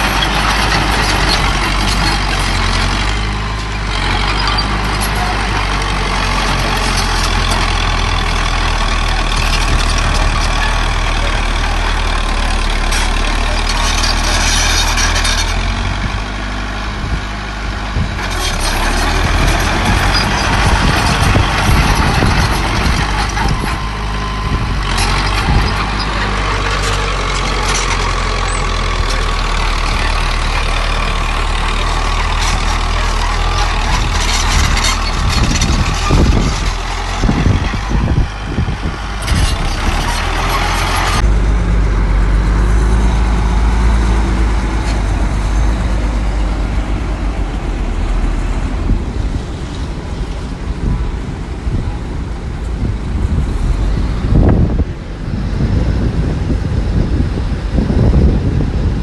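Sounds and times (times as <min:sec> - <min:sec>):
heavy machinery engines droning: 0:00.0 - 0:59.0.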